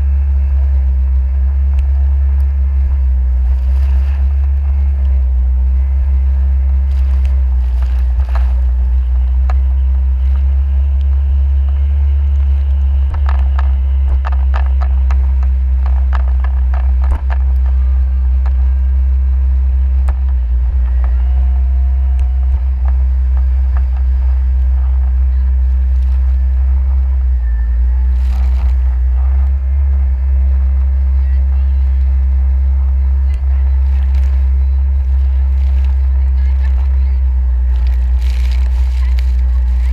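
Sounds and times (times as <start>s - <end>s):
jet ski engine droning: 0.0s - 39.9s.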